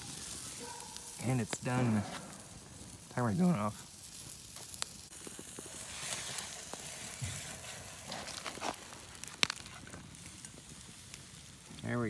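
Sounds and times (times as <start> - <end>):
campfire sizzling and crackling: 0.0 - 12.0
fire pops: 0.0 - 12.0.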